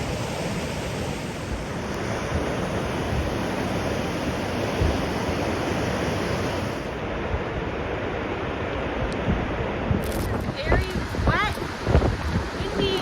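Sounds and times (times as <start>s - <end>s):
rushing water roar: 0.0s - 13.0s
wind buffeting microphone: 0.0s - 13.0s.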